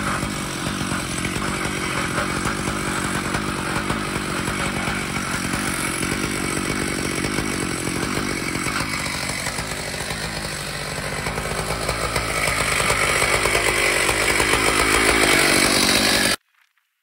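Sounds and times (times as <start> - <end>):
chainsaw idling: 0.0 - 16.4.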